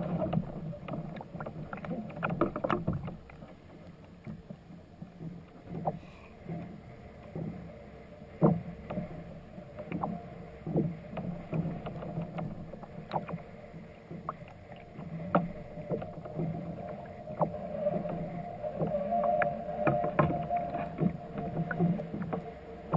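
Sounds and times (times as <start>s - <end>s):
faint steady hum: 0.0s - 22.9s
water splashing against hull: 0.0s - 22.9s.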